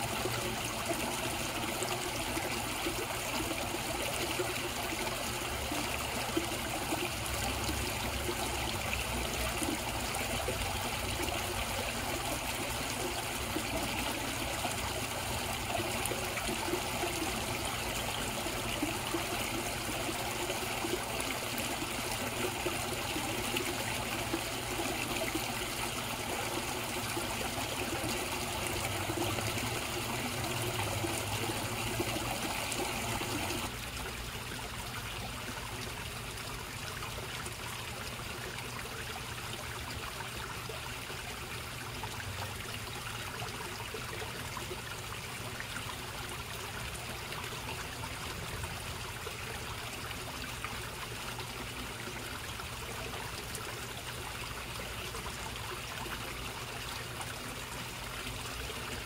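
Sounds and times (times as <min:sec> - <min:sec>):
water trickling into a pond: 0:00.0 - 0:59.0.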